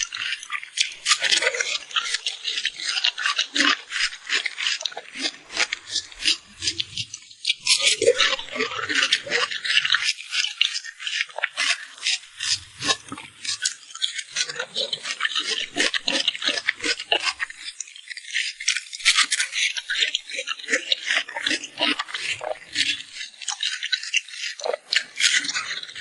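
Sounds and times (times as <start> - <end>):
wet chewing and smacking: 0.0 - 26.0.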